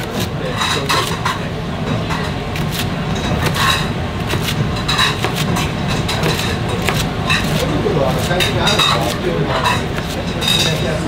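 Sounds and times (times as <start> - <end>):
knife chopping on cutting board: 0.0 - 1.4, 2.2 - 11.0.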